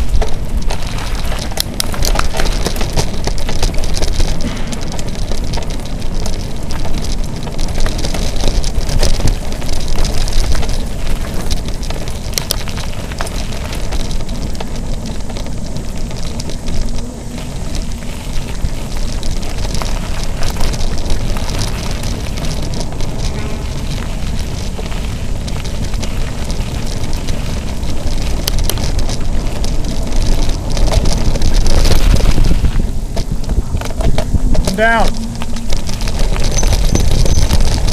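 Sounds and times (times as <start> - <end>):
bike clicks and rattles: 0.0 - 37.9
bike tyres rumbling on dirt: 0.0 - 37.9
wind on microphone: 0.0 - 37.9.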